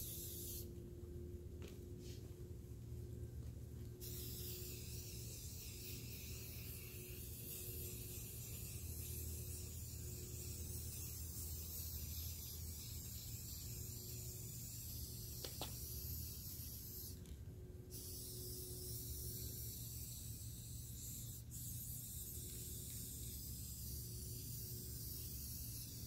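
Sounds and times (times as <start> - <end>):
spray paint can hissing: 0.0 - 0.7, 4.0 - 26.0
low hum: 0.0 - 26.0.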